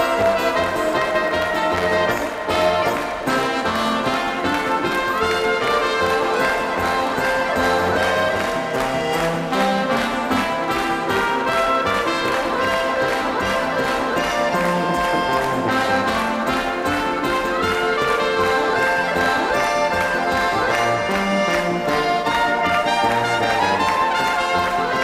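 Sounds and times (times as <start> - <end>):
folk dance band music: 0.0 - 25.0.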